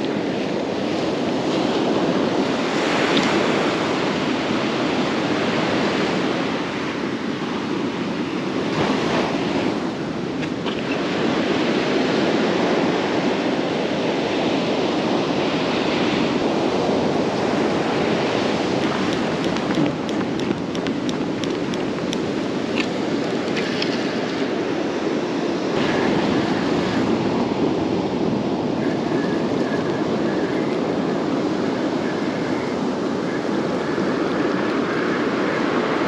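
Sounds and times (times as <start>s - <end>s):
surf breaking on beach: 0.0s - 36.0s
wind buffeting microphone: 0.0s - 36.0s.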